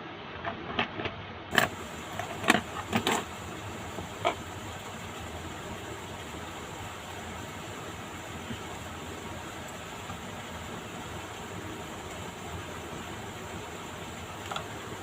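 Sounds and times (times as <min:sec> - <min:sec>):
amplifier speaker hiss: 0:01.5 - 0:15.0.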